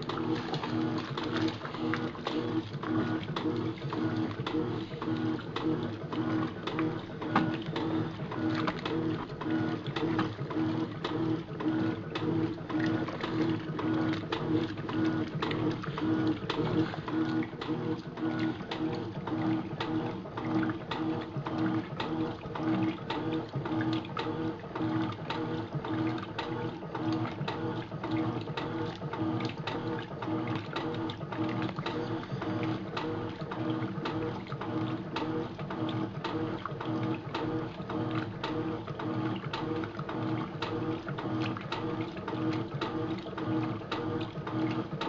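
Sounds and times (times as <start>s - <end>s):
washing machine churning: 0.0s - 45.0s.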